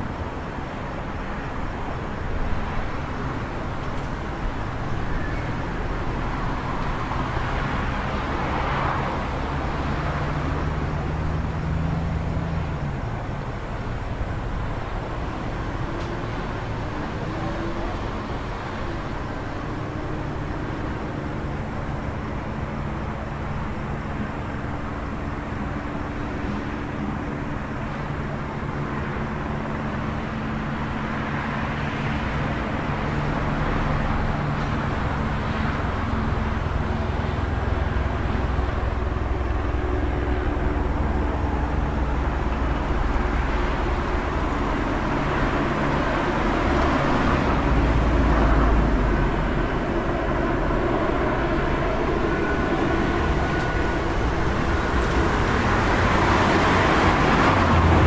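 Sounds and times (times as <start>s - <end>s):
engines humming: 0.0s - 58.0s
heavy vehicles passing: 0.0s - 58.0s
road traffic noise: 0.0s - 58.0s.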